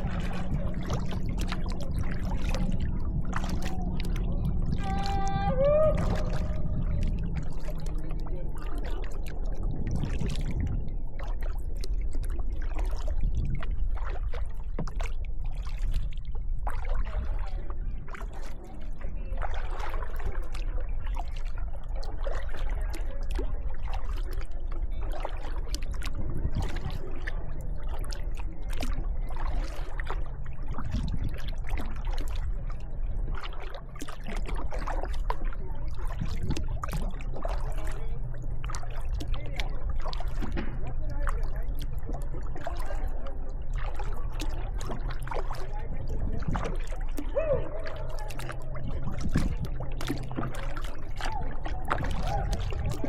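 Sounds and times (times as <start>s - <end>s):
paddle splashing into water: 0.0s - 53.0s
steady low rumble: 0.0s - 53.0s
water dripping off paddle: 0.0s - 53.0s.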